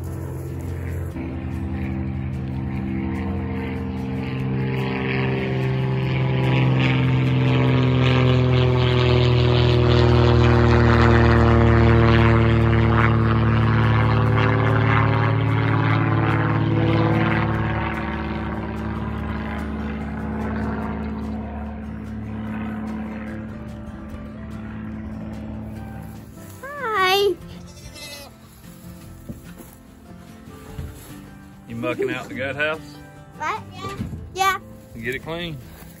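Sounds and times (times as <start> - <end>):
propeller aircraft flying over: 0.0 - 36.0.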